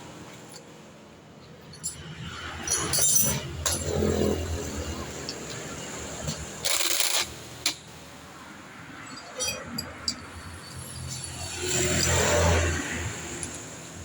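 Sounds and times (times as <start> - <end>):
small metal tools clinking: 1.4 - 7.9, 8.9 - 14.0.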